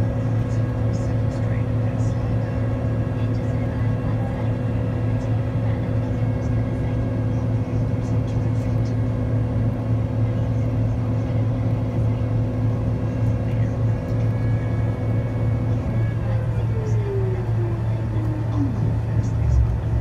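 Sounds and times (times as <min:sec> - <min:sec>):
aircraft cabin low hum: 0:00.0 - 0:20.0.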